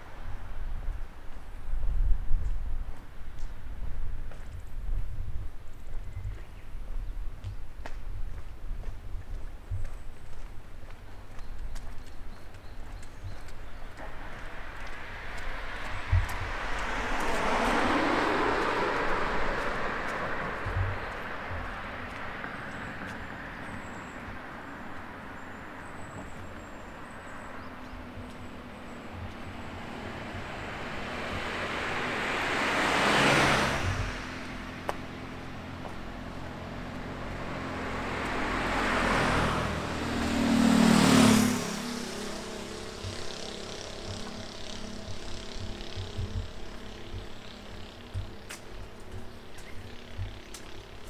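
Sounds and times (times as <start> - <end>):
cars passing on road: 0.0 - 51.0.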